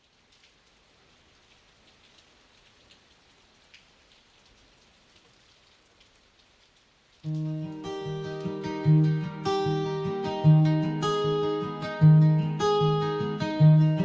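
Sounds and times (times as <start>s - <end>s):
faint steady rain: 0.0s - 14.0s
raindrops ticking: 0.0s - 14.0s.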